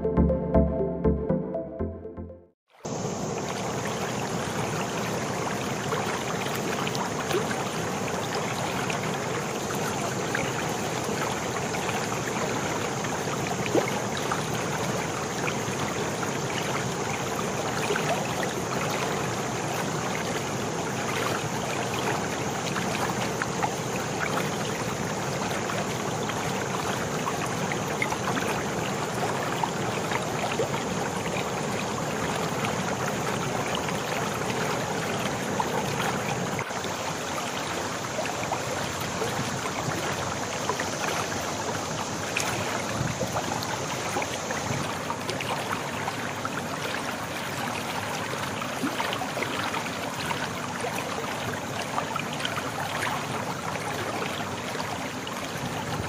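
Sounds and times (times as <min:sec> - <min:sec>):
water splashing: 0:02.7 - 0:56.0.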